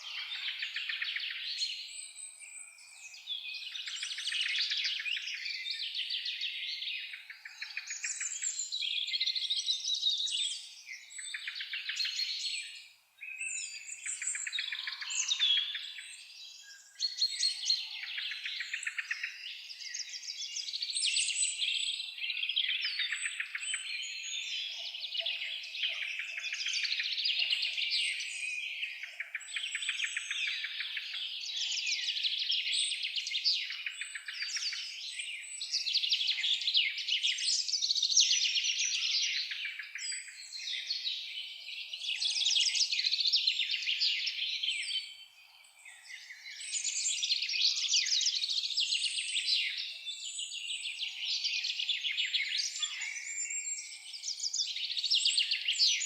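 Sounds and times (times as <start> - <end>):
songbirds chorus trills and chirps: 0.0 - 56.0.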